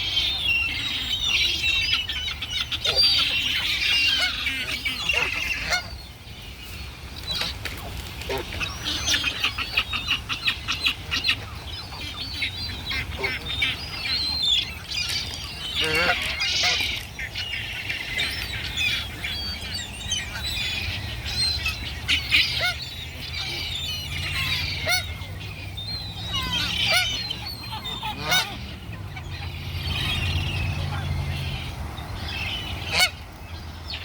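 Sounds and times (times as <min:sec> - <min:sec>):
flock of birds calling: 0:00.0 - 0:34.0.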